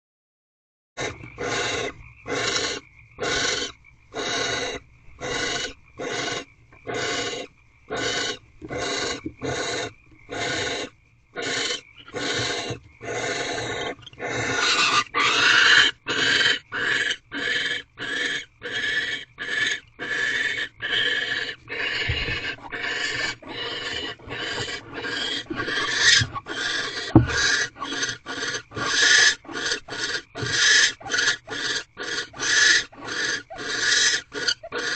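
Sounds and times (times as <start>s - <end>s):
barn owl rasping hisses: 1.0s - 18.2s, 20.0s - 34.9s.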